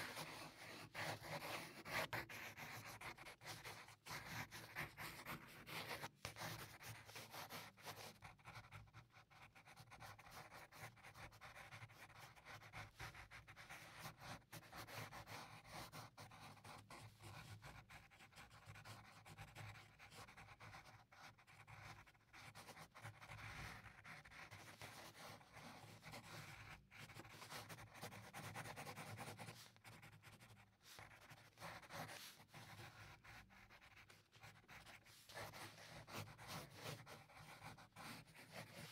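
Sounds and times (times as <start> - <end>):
eraser rubbing paper: 0.0 - 18.8, 21.4 - 38.9
pencil scratching on paper: 0.0 - 38.9.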